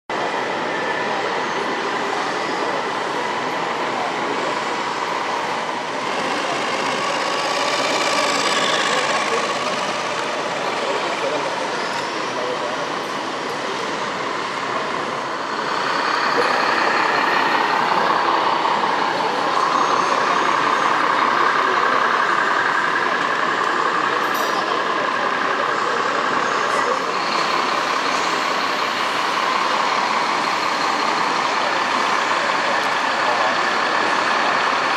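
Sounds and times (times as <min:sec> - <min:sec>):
model trucks mechanical hum: 0:00.1 - 0:34.9.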